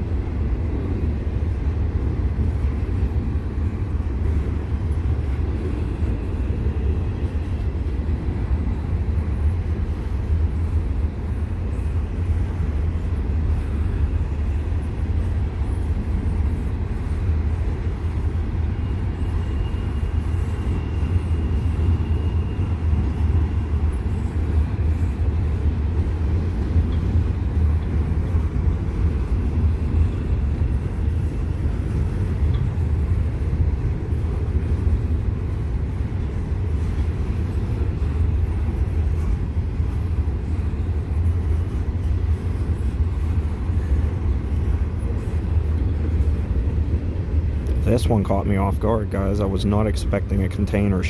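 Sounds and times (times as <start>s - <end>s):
freight train rumbling: 0.0s - 51.0s.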